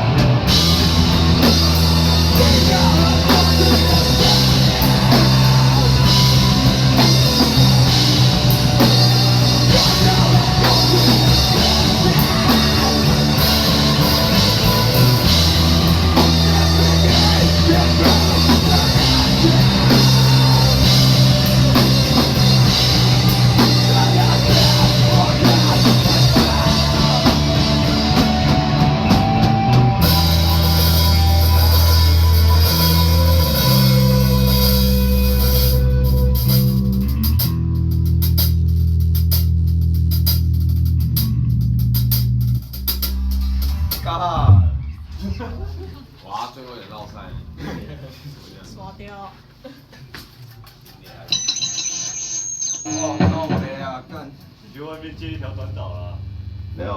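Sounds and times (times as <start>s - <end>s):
rock band playing: 0.0s - 45.5s, 52.8s - 53.9s
dense drumming: 0.0s - 45.8s.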